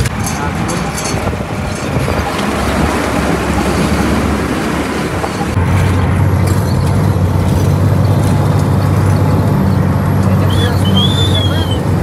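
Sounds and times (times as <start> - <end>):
wind noise: 0.0 - 11.1
road noise: 0.0 - 12.0
truck engine hum: 0.0 - 12.0.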